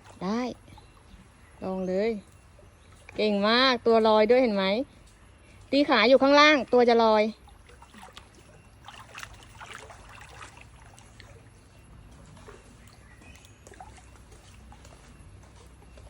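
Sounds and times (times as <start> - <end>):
pool water splashing: 0.0 - 16.0.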